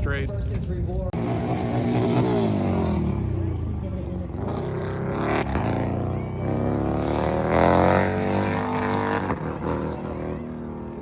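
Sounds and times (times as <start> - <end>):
racing motorcycle engines passing: 1.1 - 11.0.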